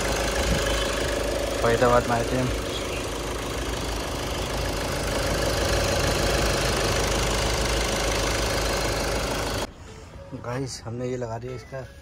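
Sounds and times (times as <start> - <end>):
diesel engine idling: 0.0 - 10.4.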